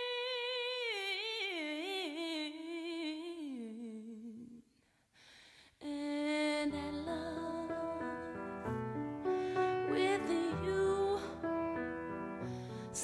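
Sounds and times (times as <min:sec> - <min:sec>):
wordless voice singing with vibrato: 0:00.0 - 0:04.9, 0:05.7 - 0:13.0.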